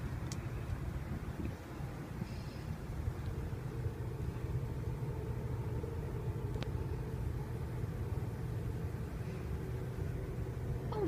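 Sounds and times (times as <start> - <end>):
faint hum: 0.0 - 11.0
low outdoor rumble: 0.0 - 11.0.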